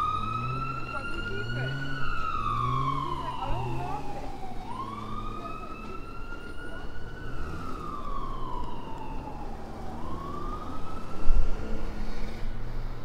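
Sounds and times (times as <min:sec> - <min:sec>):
fire engine siren wailing: 0:00.0 - 0:12.5
traffic rumble: 0:00.0 - 0:13.0
vehicle driving past: 0:00.0 - 0:13.0.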